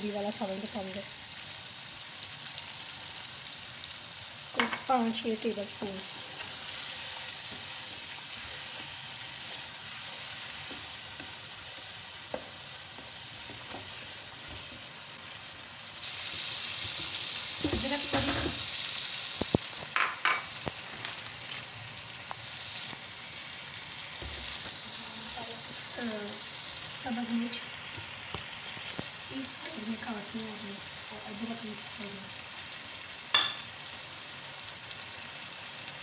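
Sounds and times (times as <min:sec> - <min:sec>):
meat sizzling in a pan: 0:00.0 - 0:36.0.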